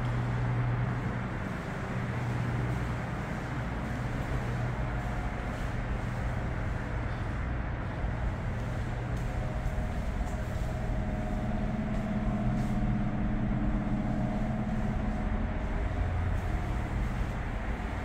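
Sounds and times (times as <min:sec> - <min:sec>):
faint droning tone: 0:00.0 - 0:18.0
machinery humming: 0:00.0 - 0:18.0.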